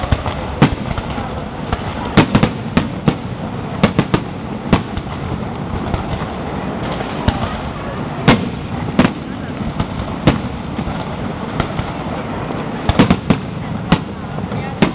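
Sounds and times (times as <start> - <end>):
fireworks bangs: 0.0 - 14.9
steady background noise: 0.0 - 14.9.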